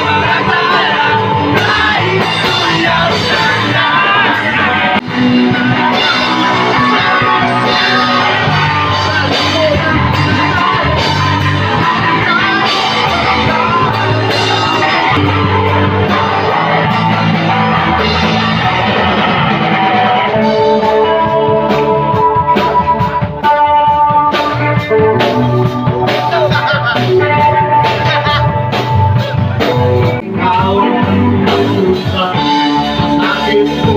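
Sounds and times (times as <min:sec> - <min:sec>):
live rock band playing: 0:00.0 - 0:33.9
person singing: 0:00.0 - 0:33.9.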